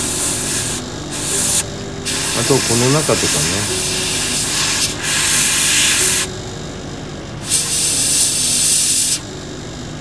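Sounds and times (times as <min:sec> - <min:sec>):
airbrush spraying hiss: 0:00.0 - 0:06.3, 0:07.4 - 0:09.2
steady low hum: 0:00.0 - 0:10.0.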